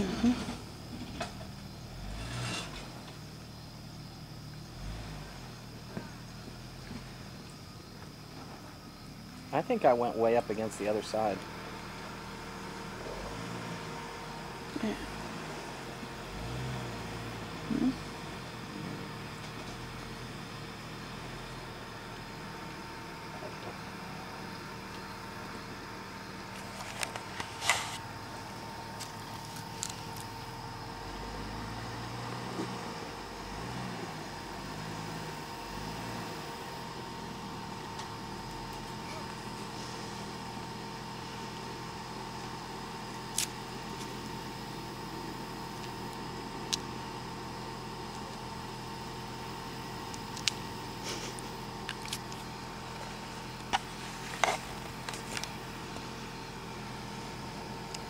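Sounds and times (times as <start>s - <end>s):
car engine at low revs: 0.0s - 58.0s.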